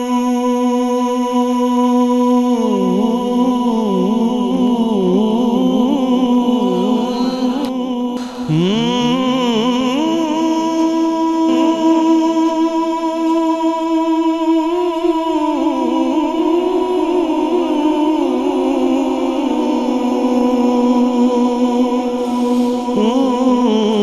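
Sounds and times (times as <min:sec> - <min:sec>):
man singing long notes: 0:00.0 - 0:24.0
humming drone: 0:02.4 - 0:24.0.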